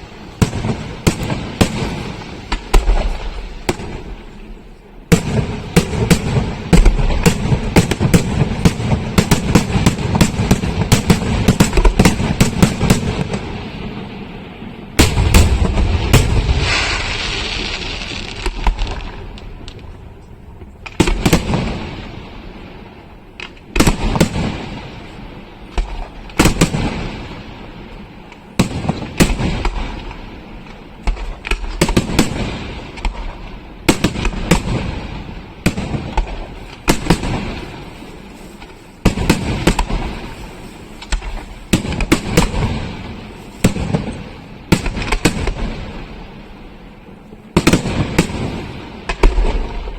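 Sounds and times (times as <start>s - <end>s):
firework shells bursting with echo: 0.0s - 49.9s.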